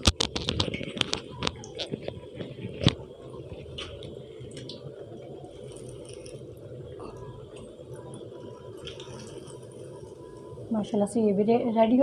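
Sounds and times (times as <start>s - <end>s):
hot oil sizzling in a pan: 0.0s - 12.0s.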